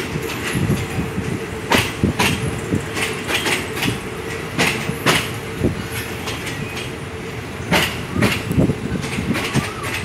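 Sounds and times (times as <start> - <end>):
clickety-clack over rail joints: 0.0 - 10.0
train wheels rumbling: 0.0 - 10.0.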